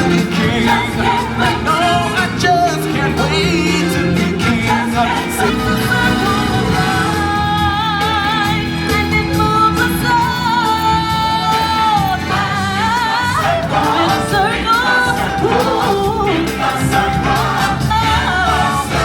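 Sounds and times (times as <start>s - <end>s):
backing music: 0.0s - 19.0s
choir singing: 0.0s - 19.0s
lead voices singing with vibrato: 0.0s - 19.0s.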